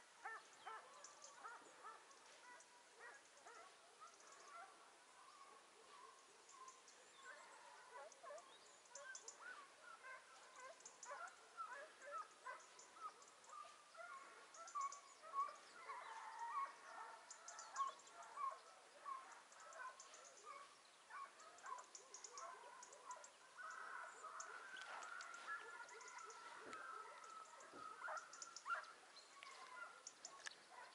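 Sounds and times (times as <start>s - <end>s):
distant hounds baying: 0.0s - 30.9s.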